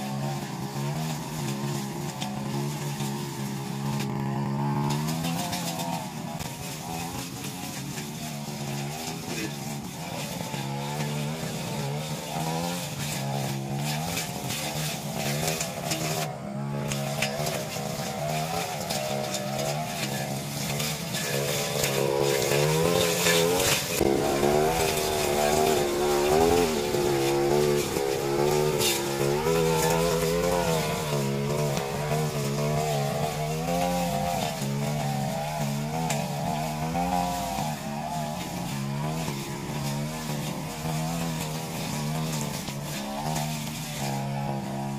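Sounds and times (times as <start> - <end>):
brush cutter engine running: 0.0 - 44.9.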